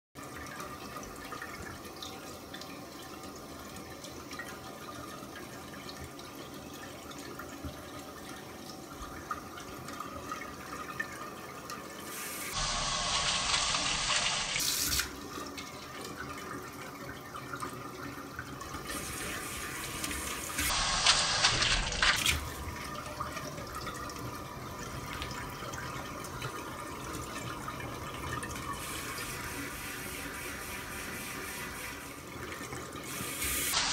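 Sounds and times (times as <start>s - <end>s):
water running into a bowl: 0.2s - 33.9s.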